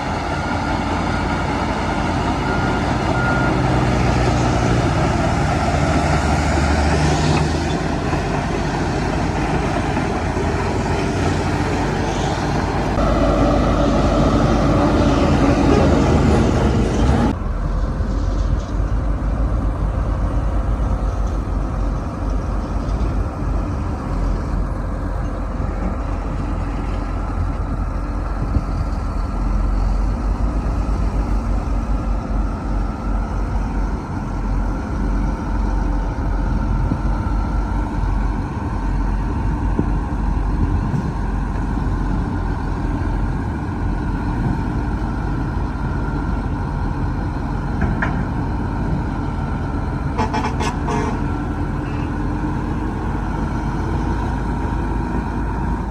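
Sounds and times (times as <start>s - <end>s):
heavy diesel engines rumbling: 0.0s - 55.9s.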